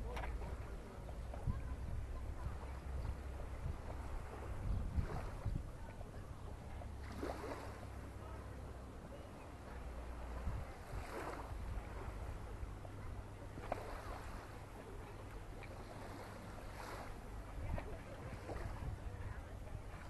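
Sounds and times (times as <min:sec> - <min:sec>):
wind buffeting microphone: 0:00.0 - 0:08.2, 0:09.9 - 0:15.0, 0:16.0 - 0:20.0
small waves lapping on shore: 0:00.0 - 0:20.0.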